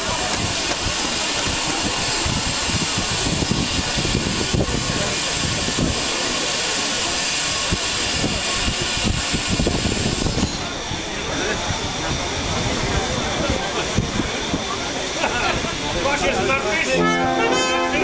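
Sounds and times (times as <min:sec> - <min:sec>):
crowd murmur: 0:00.0 - 0:18.0.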